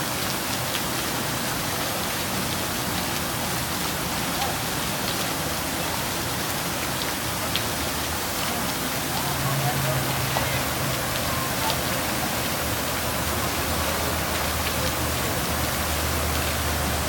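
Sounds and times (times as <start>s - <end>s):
hiss of falling water: 0.0s - 17.0s.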